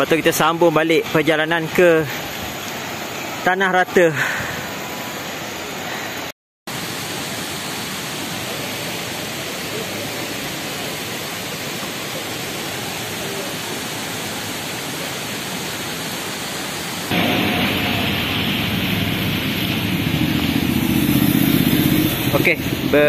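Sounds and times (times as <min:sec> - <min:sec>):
waterfall stream rushing over rocks: 0:00.0 - 0:23.0.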